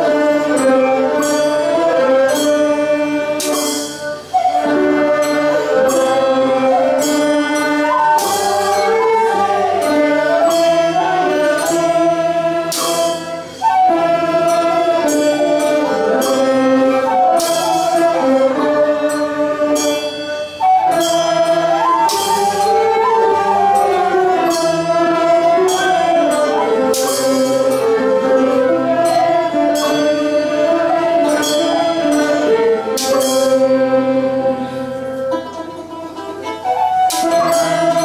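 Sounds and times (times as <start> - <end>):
sharp percussive strikes: 0.0 - 38.0
traditional ensemble with singing: 0.0 - 38.0.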